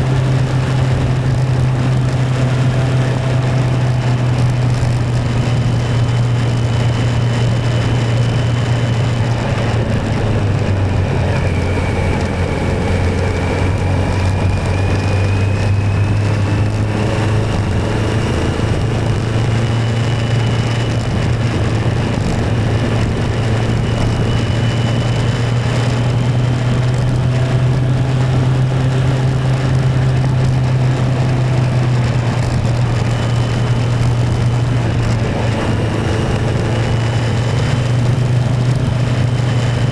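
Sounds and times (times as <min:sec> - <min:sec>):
motorcycle engine and road noise: 0:00.0 - 0:39.9.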